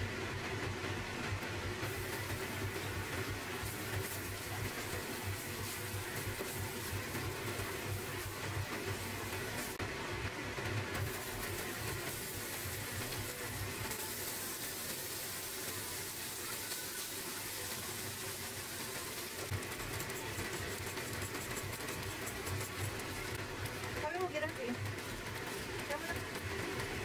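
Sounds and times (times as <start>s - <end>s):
garlic sizzling in a frying pan: 1.6s - 27.0s.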